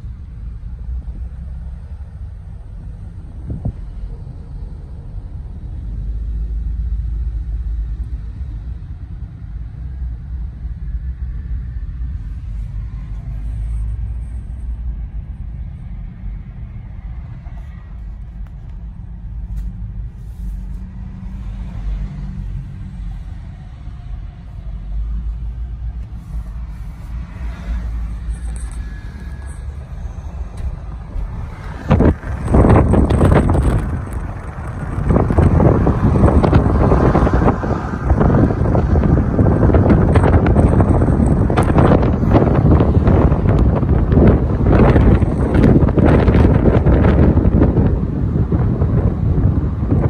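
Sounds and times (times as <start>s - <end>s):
road and engine rumble in car cabin: 0.0s - 50.0s.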